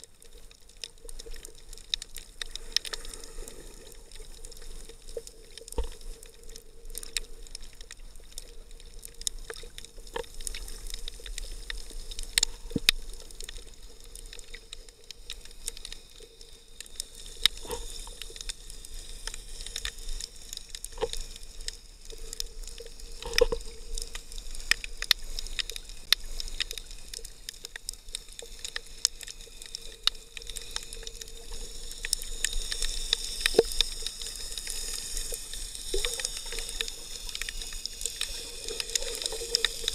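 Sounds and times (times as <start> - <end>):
faint steady hum: 0.0 - 39.9
muffled underwater movement: 0.0 - 39.9
sharp clicks and crackles: 0.0 - 39.9.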